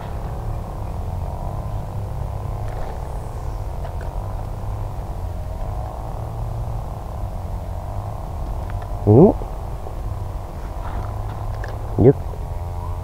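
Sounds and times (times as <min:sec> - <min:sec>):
motor running with wavering pitch: 0:00.0 - 0:13.0.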